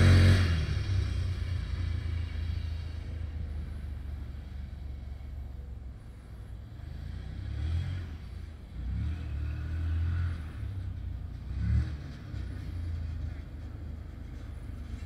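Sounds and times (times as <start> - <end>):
distant vehicle engine rumble: 0.0 - 15.0.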